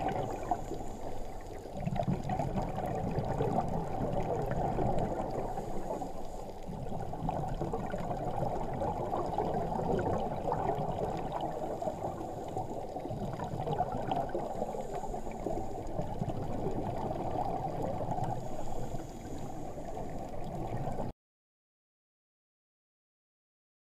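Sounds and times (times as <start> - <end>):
muffled underwater rush: 0.0 - 21.1.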